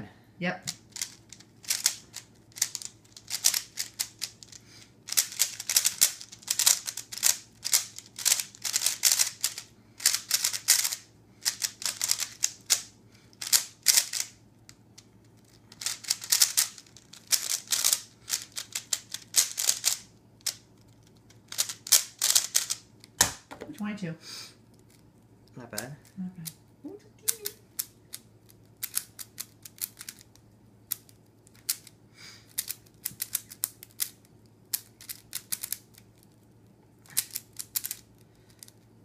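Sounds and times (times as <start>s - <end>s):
puzzle cube clicking turns: 0.7s - 23.4s, 27.2s - 36.4s, 37.0s - 38.9s.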